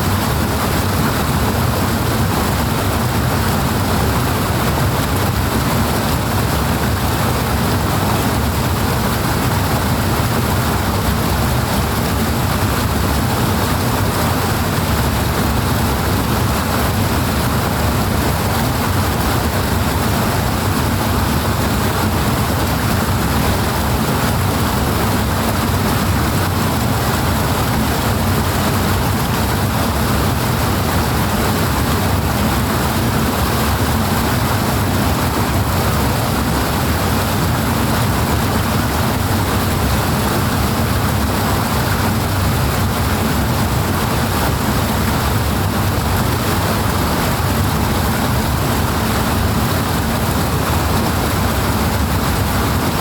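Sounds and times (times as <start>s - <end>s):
powerful rushing water: 0.0s - 53.0s.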